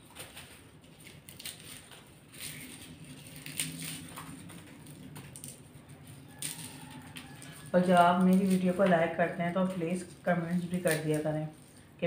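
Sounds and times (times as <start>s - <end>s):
garlic skins crackling: 0.0s - 12.0s.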